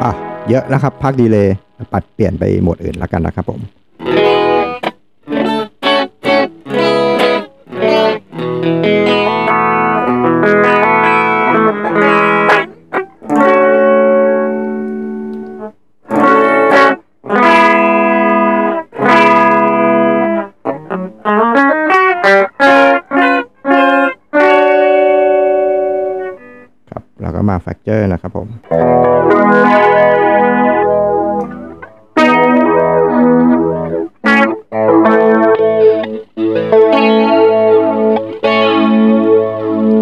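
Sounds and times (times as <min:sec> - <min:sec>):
electric guitar with doubler effect: 0:00.0 - 0:27.4, 0:28.3 - 0:40.0.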